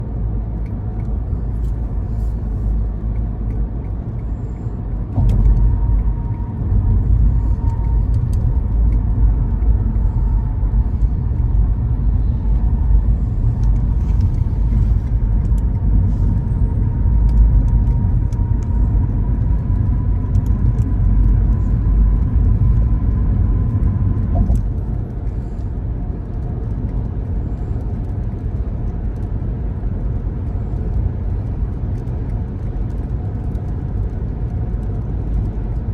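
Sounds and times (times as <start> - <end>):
car engine and tyre rumble: 0.0 - 35.9.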